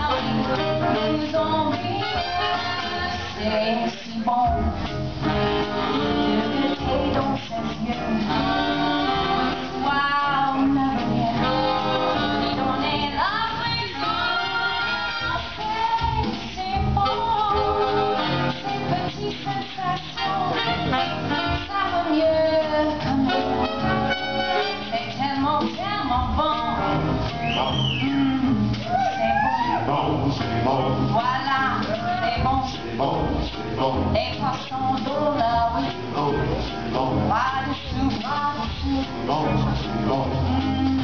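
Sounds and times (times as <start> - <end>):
woman singing: 0.0 - 29.8, 30.8 - 41.0
swing band playing: 0.0 - 41.0.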